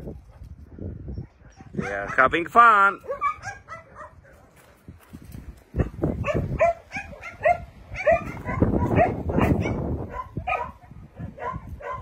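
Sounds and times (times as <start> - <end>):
dogs barking excitedly: 0.1 - 4.7, 5.7 - 12.0.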